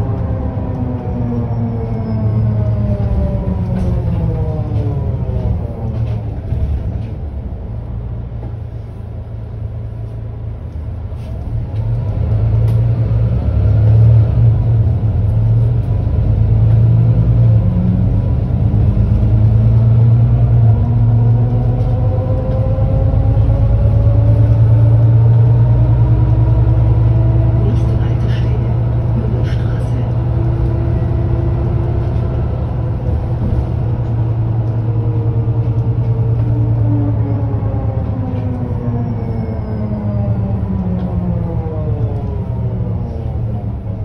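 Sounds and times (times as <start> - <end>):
bus diesel engine idling: 0.0 - 44.0.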